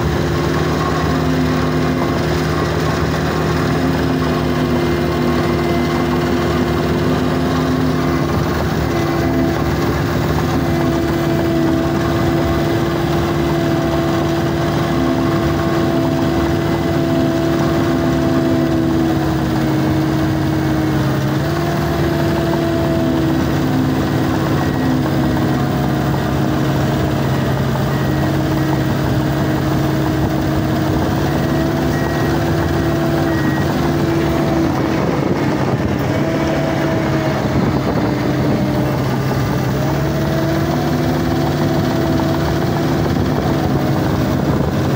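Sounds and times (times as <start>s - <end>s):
blade pushing dirt: 0.0s - 44.9s
diesel engine running under load: 0.0s - 44.9s.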